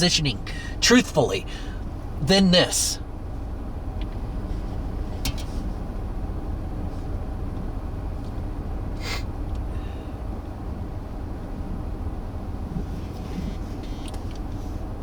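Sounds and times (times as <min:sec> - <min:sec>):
low rumble in car cabin: 0:00.0 - 0:15.0.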